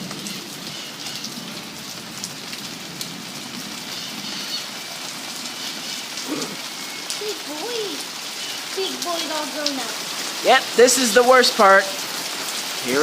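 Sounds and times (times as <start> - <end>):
heavy rain hissing: 0.0 - 13.0
raindrops ticking close by: 0.0 - 13.0.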